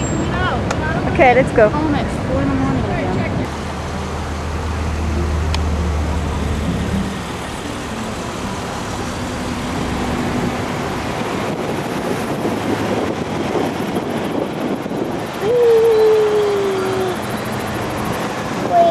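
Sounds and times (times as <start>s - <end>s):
car engine humming: 0.0s - 18.9s
traffic engines and tyres: 0.0s - 18.9s.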